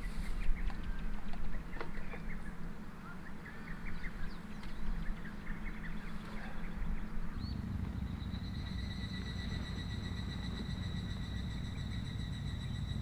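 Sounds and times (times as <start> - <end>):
birds chirping: 0.0 - 13.0
high-pitched whine: 0.0 - 13.0.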